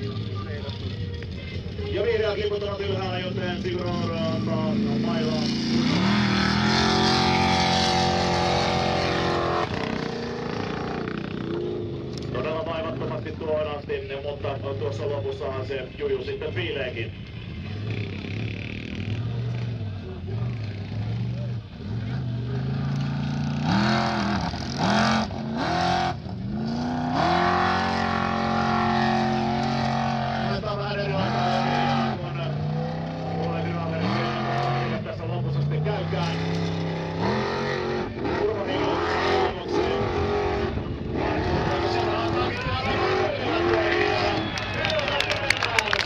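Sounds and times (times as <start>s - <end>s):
off-road car engine at full throttle: 0.0s - 46.0s.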